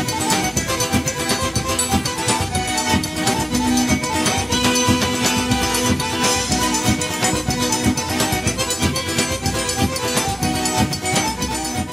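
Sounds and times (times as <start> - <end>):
held instrument notes: 0.0 - 11.9
steady percussion beat: 0.0 - 11.9.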